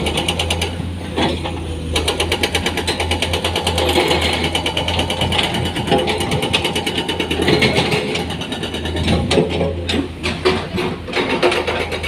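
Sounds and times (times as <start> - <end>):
diesel engine rumbling: 0.0 - 12.0
sharp knocks and clatters: 0.0 - 12.0.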